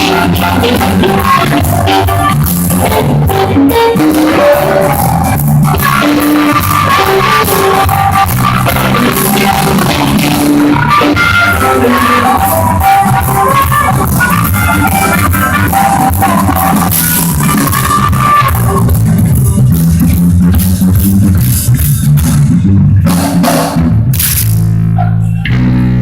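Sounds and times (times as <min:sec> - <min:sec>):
band playing blues-rock: 0:00.0 - 0:26.0
drum kit: 0:00.0 - 0:26.0
guitar: 0:00.0 - 0:26.0.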